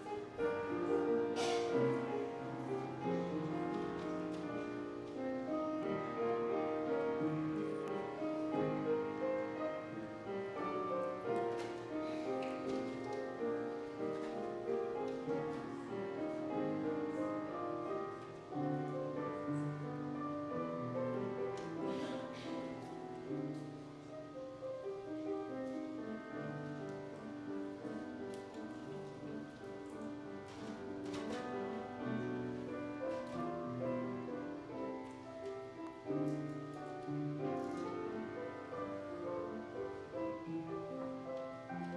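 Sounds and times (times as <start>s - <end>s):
solo piano piece: 0.0s - 41.9s.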